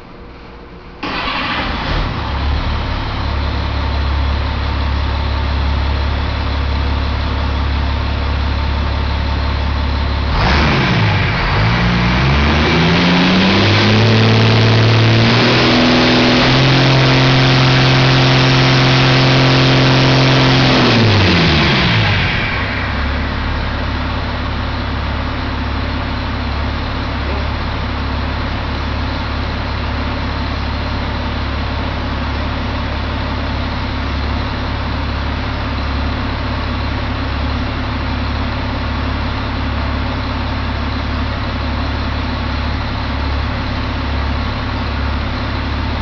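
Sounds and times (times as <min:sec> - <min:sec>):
diesel engine starting and idling: 0:00.0 - 0:46.0
diesel engine revving: 0:01.0 - 0:46.0.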